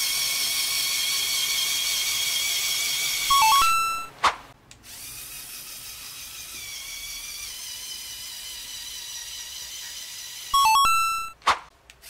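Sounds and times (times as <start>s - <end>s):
toy electric motor whining: 0.0s - 3.8s, 4.8s - 11.4s.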